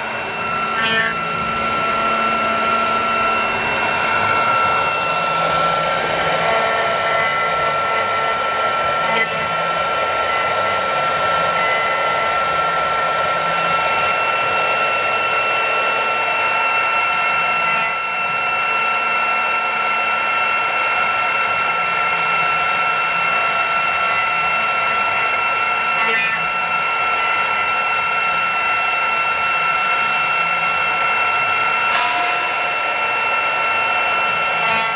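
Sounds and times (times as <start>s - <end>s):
cnc spindle high-pitched whine: 0.0s - 34.9s.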